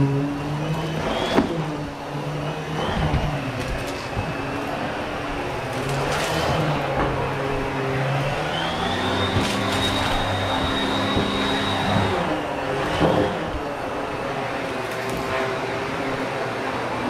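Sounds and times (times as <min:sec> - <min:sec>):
vacuum cleaner motor drone: 0:00.0 - 0:17.0.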